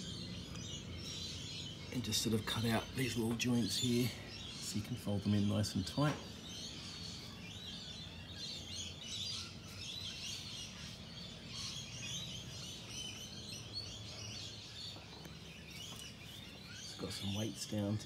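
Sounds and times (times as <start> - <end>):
birds chirping: 0.0 - 18.0
low steady hum: 0.0 - 18.0.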